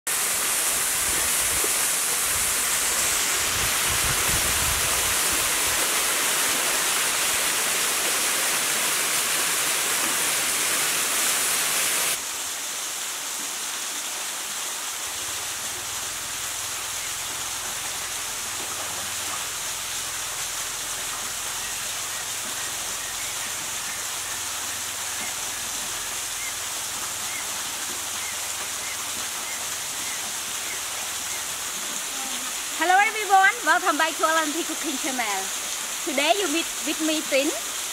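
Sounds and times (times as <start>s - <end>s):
waterfall rushing into a pool: 0.1s - 37.9s.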